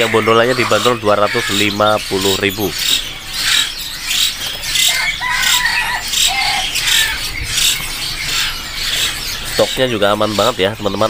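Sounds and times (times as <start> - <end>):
songbirds chirping: 0.0 - 11.0
whistled bird calls: 0.0 - 11.0.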